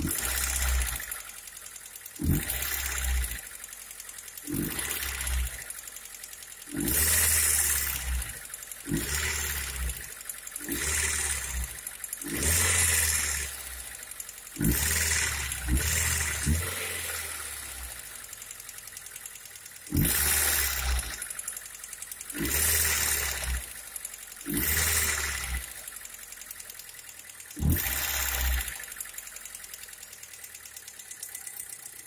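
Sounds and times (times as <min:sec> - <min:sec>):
car engine running rough: 0:00.0 - 0:32.0.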